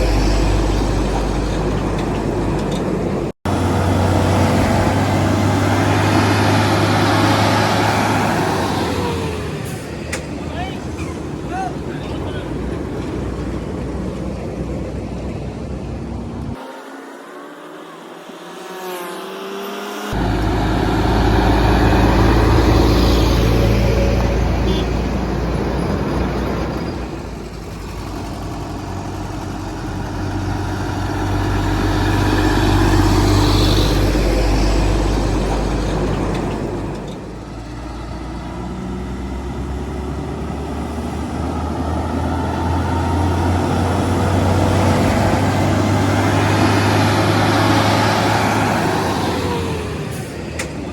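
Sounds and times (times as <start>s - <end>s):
engine picking up speed: 0.0s - 50.9s
heavy trucks driving past: 0.0s - 50.9s.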